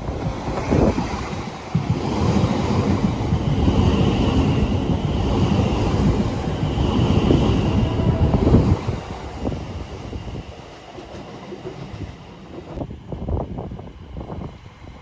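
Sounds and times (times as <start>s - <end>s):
train rumbling past: 0.0s - 15.0s
wind buffeting microphone: 0.0s - 15.0s.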